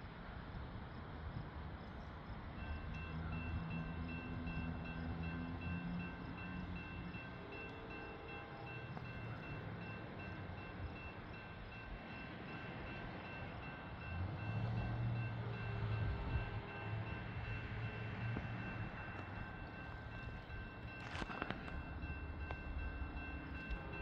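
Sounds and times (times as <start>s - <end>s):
diesel locomotive low tones: 0.0s - 24.0s.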